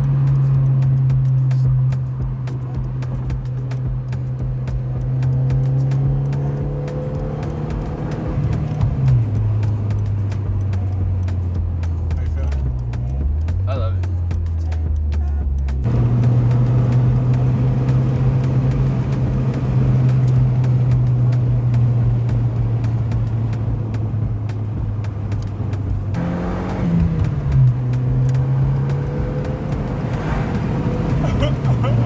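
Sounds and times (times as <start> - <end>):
car engine pulling: 0.0 - 32.0.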